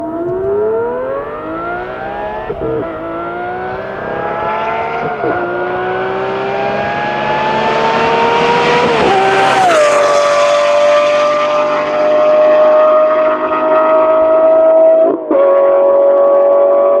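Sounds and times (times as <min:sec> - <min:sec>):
sports car accelerating hard: 0:00.0 - 0:17.0
car sweeping past: 0:00.3 - 0:14.6.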